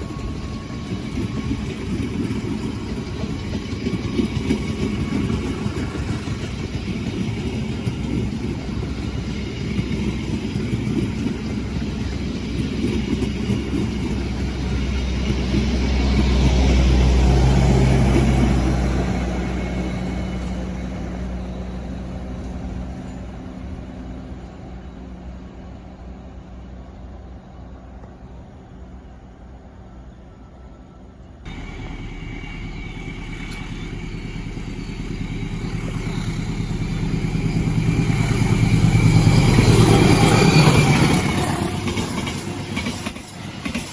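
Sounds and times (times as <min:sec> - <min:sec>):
train wheels clattering on track: 0:00.0 - 0:25.3, 0:31.5 - 0:43.9
diesel locomotive engine hum: 0:00.0 - 0:43.9.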